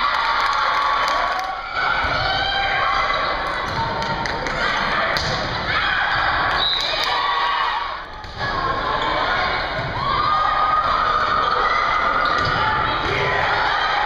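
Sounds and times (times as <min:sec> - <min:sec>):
crowd shouting and cheering: 0:00.0 - 0:14.0.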